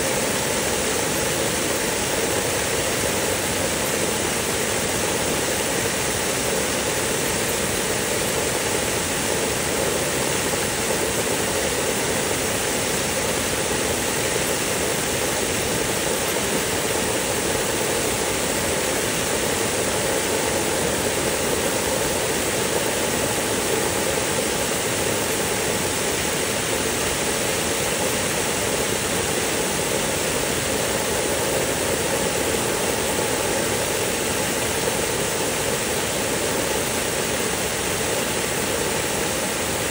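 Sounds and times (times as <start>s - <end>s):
water spraying in fine mist: 0.0s - 39.9s.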